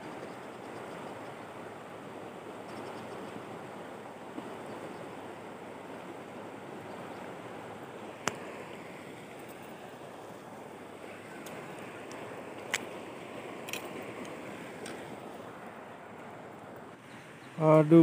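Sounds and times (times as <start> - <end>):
river current rushing: 0.0 - 18.0.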